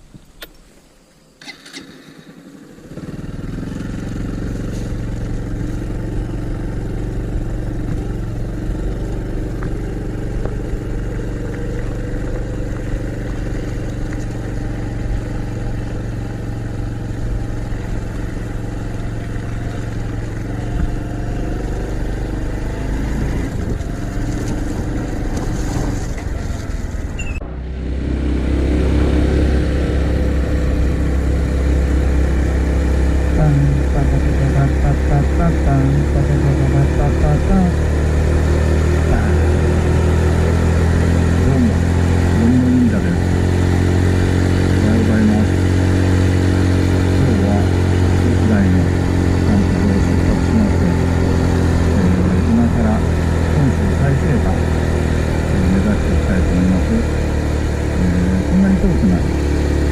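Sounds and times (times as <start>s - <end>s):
motorcycle engine running: 1.4s - 59.9s.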